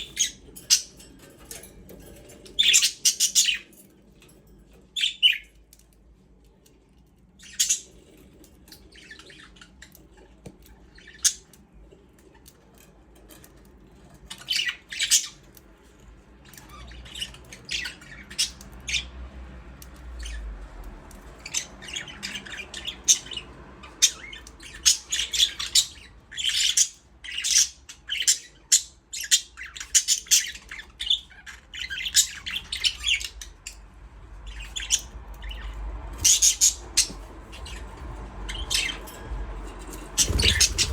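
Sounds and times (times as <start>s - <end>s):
budgerigars chirping and squawking: 0.0s - 3.8s, 5.0s - 5.5s, 7.4s - 11.6s, 14.0s - 19.1s, 21.3s - 33.8s, 34.4s - 40.9s.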